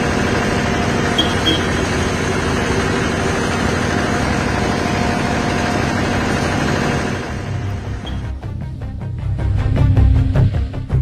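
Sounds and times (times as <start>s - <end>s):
engine-like rumbling: 0.0s - 11.0s.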